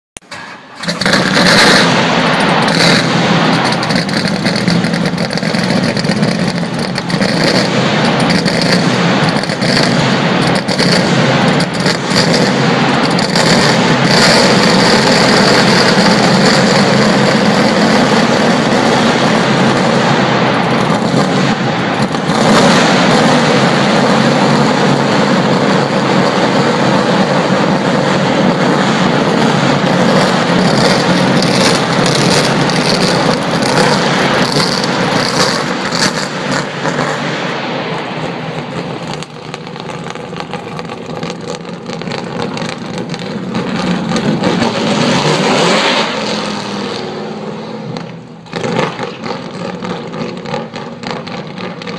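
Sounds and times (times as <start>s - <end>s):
sharp engine cracks: 0.2s - 46.2s
race car engine echoing: 0.2s - 51.9s.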